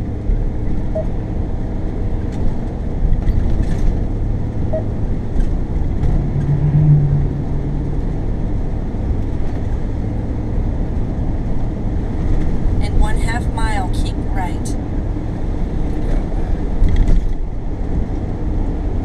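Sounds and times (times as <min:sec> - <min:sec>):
vehicle on wet road: 0:00.0 - 0:19.0.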